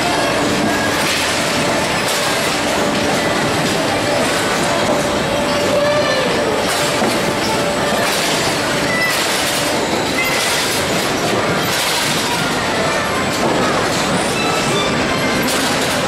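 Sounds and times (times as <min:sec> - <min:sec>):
carousel clattering rumble: 0:00.0 - 0:16.0
high squeaks: 0:00.1 - 0:16.0.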